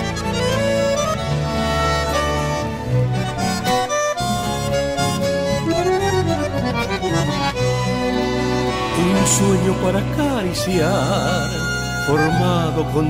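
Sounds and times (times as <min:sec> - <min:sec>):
accordion-led folk instrumental: 0:00.0 - 0:13.0.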